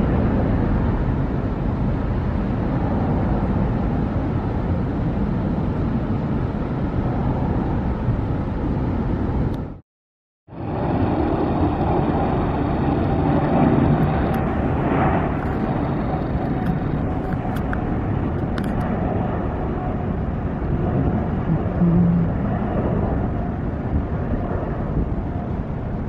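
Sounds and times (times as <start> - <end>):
jet airliner engines: 0.0 - 9.8, 10.5 - 26.0.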